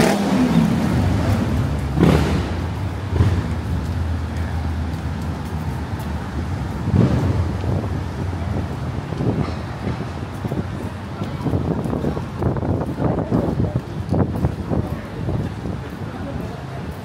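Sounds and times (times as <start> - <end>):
cars passing: 0.0 - 17.0
engines rumbling: 0.0 - 17.0.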